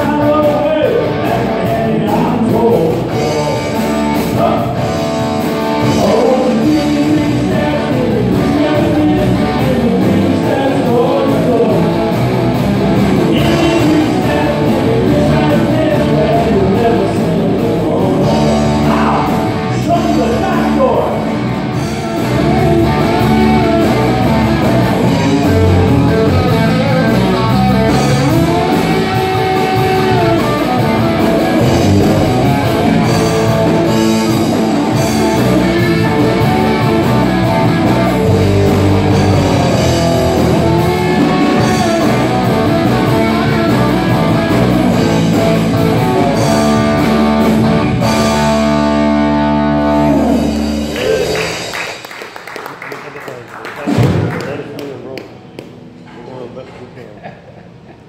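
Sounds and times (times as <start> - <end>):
lead guitar bending notes: 0.0 - 51.7
live rock band playing: 0.0 - 52.4, 53.9 - 54.4.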